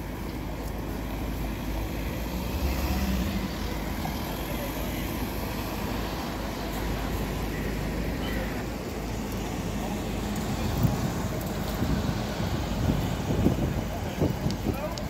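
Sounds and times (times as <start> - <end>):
low engine rumble: 0.0 - 15.0
cars driving past: 0.4 - 14.7.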